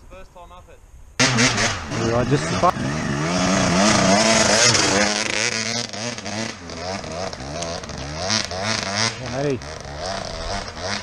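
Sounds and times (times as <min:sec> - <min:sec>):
dirt bike engines revving: 0:01.2 - 0:11.0.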